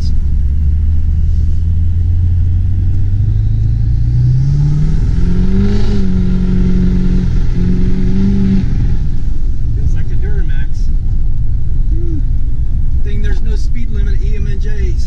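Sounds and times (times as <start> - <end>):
diesel engine accelerating: 0.0 - 15.0.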